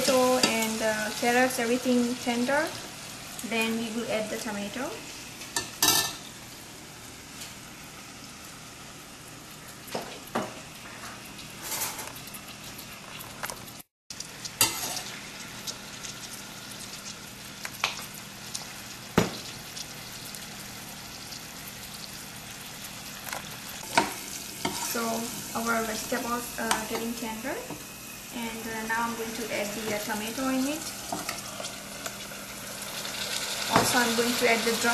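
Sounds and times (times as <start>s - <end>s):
vegetables sizzling in oil: 0.0s - 13.0s, 13.6s - 34.9s.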